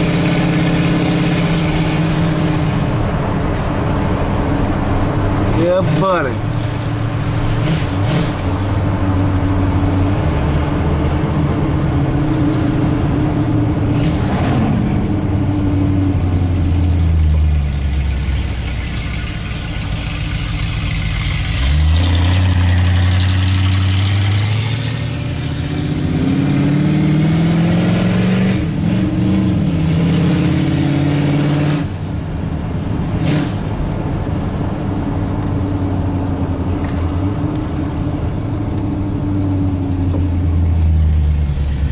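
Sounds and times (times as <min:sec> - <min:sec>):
road noise: 0:00.0 - 0:41.9
vehicle engine drone: 0:00.0 - 0:41.9.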